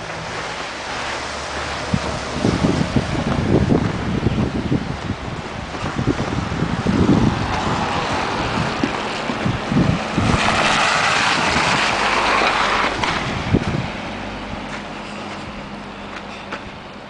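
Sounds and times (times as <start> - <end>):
wind buffeting microphone: 0.0 - 15.7
tyres hissing on wet pavement: 0.0 - 16.6.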